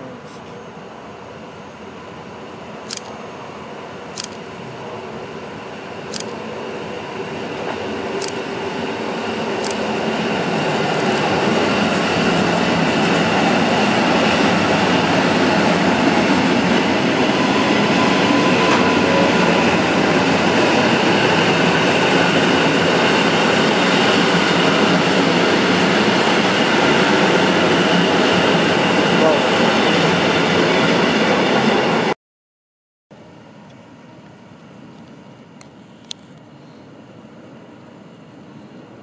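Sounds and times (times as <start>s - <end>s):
train wheel and track noise: 0.0s - 32.2s.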